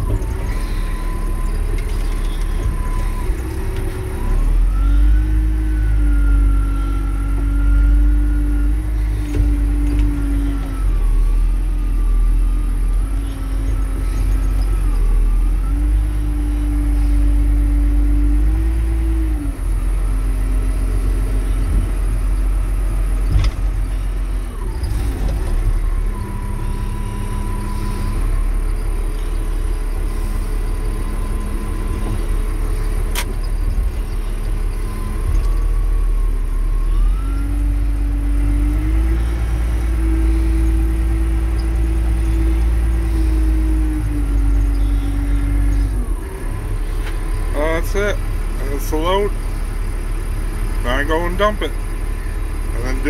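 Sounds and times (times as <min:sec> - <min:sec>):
diesel engine under load: 0:00.0 - 0:53.0.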